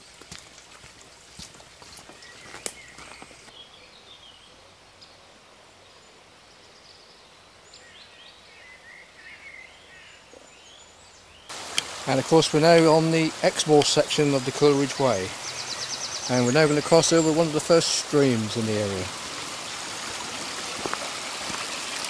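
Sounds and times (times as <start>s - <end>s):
small birds chirping: 0.0s - 5.2s, 5.8s - 22.0s.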